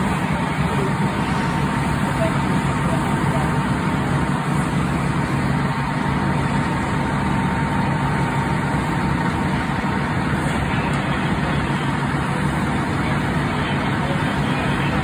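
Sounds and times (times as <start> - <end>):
fire engine droning: 0.0 - 15.0
thin steady whine: 0.0 - 15.0.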